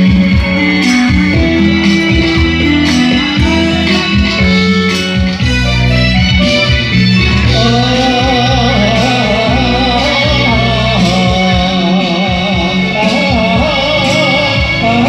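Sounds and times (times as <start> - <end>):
man singing with vibrato: 0.0 - 5.4, 7.1 - 15.0
instrumental backing track: 0.0 - 15.0.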